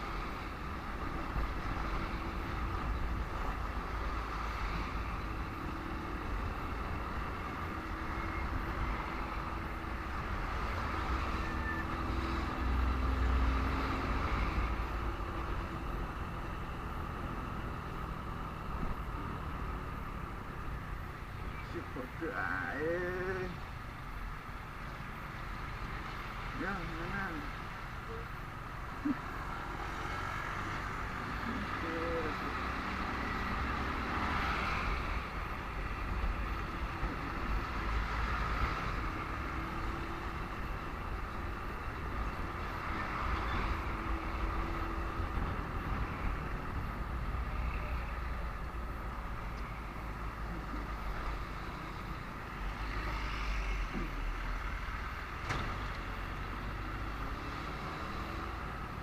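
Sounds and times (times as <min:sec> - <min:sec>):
highway traffic rumble: 0:00.0 - 0:59.0.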